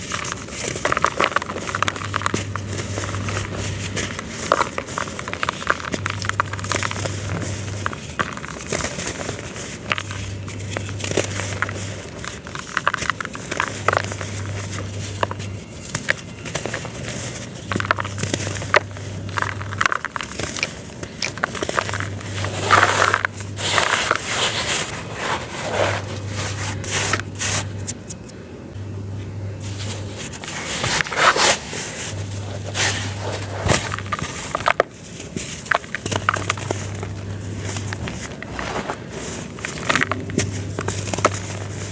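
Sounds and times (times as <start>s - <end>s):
dry dirt crunching by hand: 0.0s - 27.9s, 29.6s - 41.9s.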